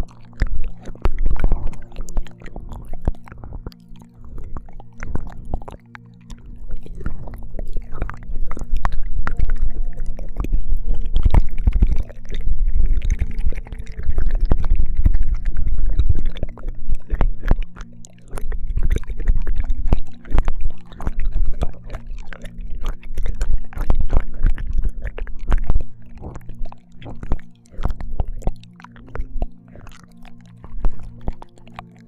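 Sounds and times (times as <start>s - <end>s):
microphone contact rumble: 0.0s - 30.0s
faint low hum: 0.0s - 32.0s
wet mouth clicks and smacks: 0.0s - 32.0s.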